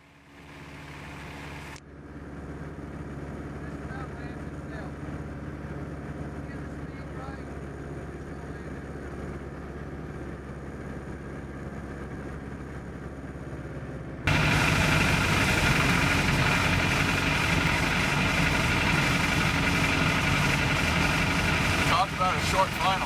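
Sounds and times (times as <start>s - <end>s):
small plane engine and propeller: 0.0s - 23.0s.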